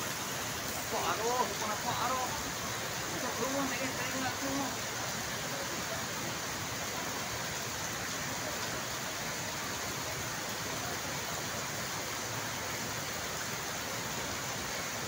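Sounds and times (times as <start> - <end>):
floodwater rushing down waterfall: 0.0 - 15.0.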